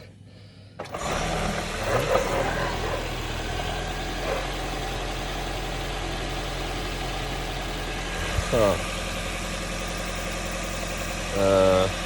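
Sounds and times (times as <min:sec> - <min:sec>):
car engine idling: 0:00.0 - 0:12.0
engine rattle: 0:00.7 - 0:12.0.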